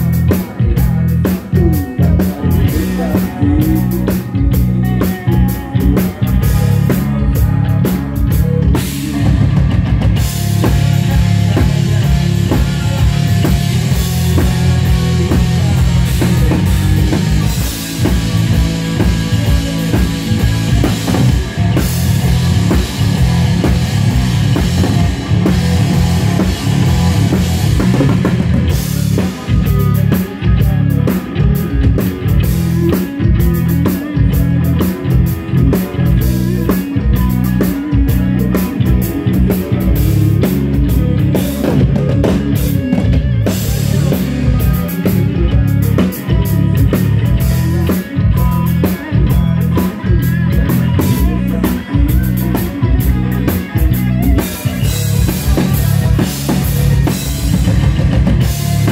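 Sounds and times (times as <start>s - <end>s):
drum kit kick and snare: 0.0s - 58.9s
electric guitar: 0.0s - 58.9s
rock band playing: 0.0s - 58.9s.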